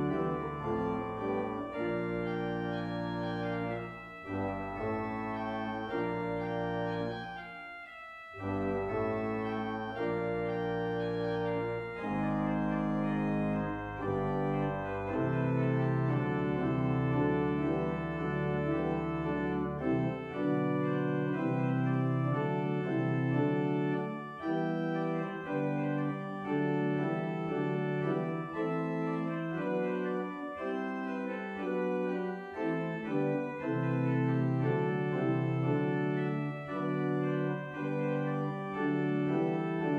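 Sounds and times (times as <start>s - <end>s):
church organ chords: 0.0s - 39.9s
deep organ pedal notes: 0.0s - 39.9s.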